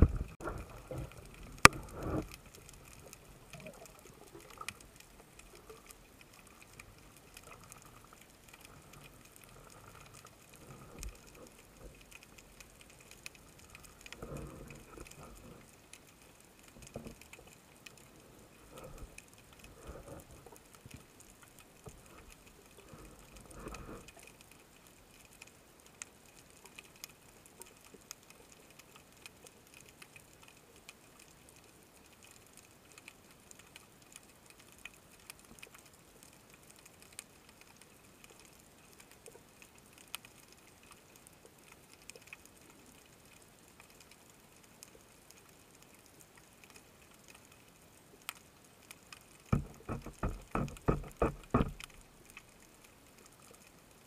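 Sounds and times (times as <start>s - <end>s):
small clicks: 0.0s - 18.2s, 18.8s - 53.9s
faint underwater hiss: 0.0s - 54.0s.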